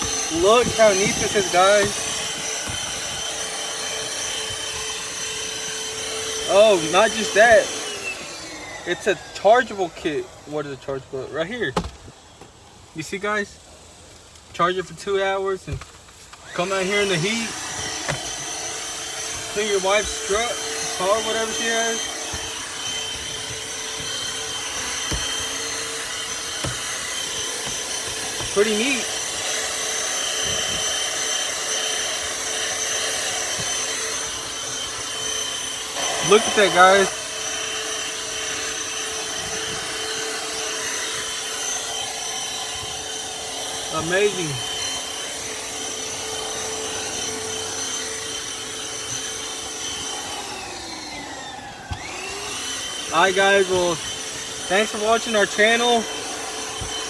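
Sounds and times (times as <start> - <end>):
handheld vacuum running: 0.0 - 57.0.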